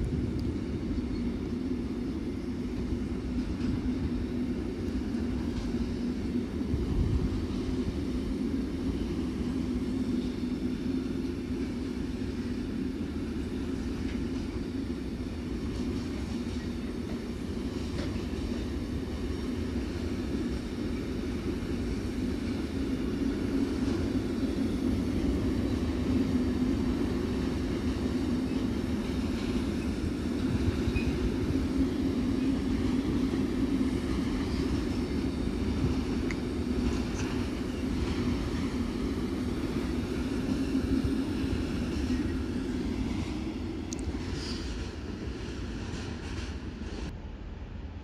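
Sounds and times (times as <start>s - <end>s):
freight train wheels rumbling on rails: 0.0s - 48.0s.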